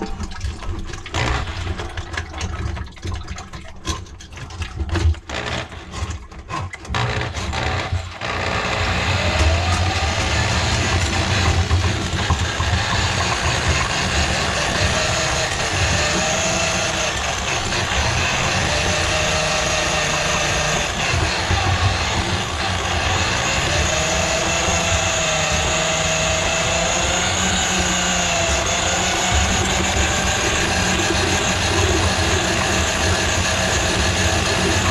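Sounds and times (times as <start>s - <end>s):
drain cleaning machine motor: 0.9s - 2.7s, 5.2s - 34.9s.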